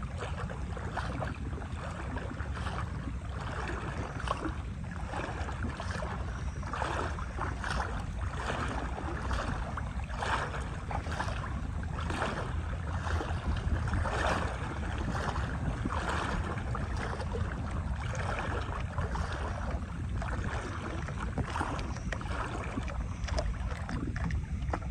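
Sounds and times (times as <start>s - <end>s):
footsteps wading in water: 0.0s - 24.9s
wind on microphone: 0.0s - 24.9s.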